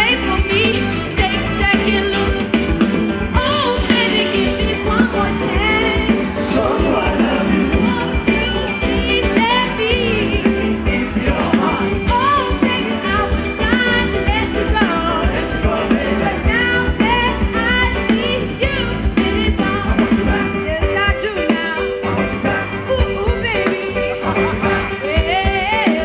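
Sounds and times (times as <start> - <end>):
drums steady beat: 0.0 - 26.0
person singing: 0.0 - 26.0.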